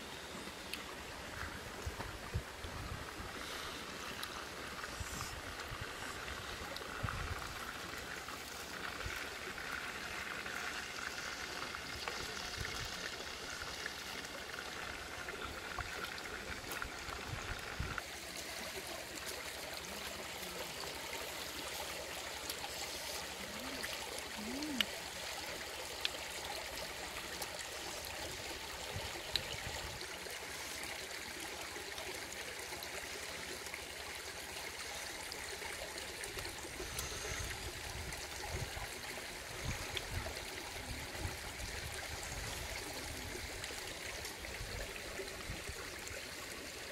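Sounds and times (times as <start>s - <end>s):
stream running over rocks: 0.0s - 46.9s.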